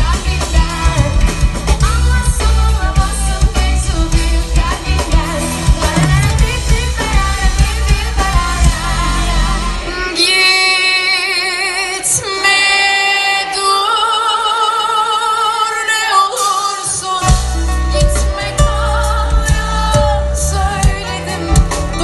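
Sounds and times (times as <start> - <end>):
female singer with vibrato: 0.0 - 22.0
live pop band playing: 0.0 - 22.0.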